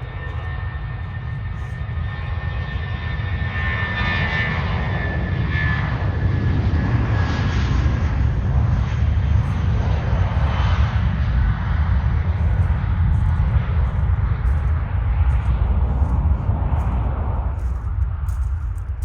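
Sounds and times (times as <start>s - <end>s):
high steady engine whine: 0.0s - 19.0s
jet engines rumbling: 0.0s - 19.0s.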